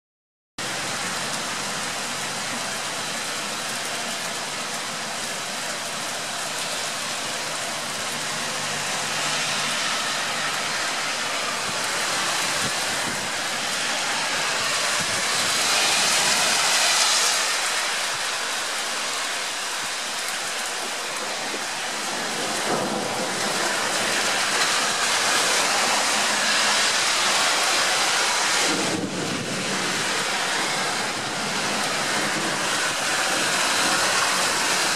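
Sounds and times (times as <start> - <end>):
heavy rain pouring: 0.6 - 34.9.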